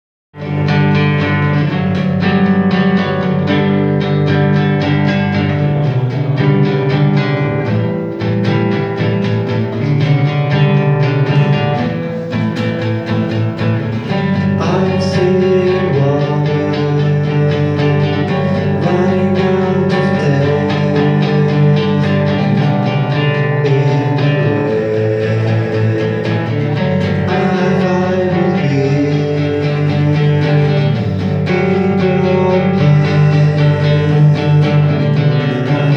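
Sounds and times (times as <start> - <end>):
live guitar music: 0.3 - 35.9.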